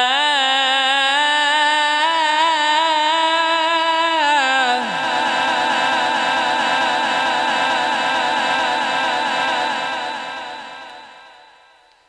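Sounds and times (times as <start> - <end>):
person chanting recitation: 0.0 - 11.9.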